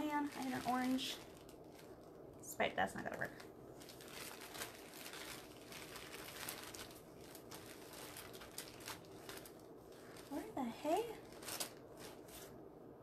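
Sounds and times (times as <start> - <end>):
bags crinkling and rustling: 0.0 - 12.7.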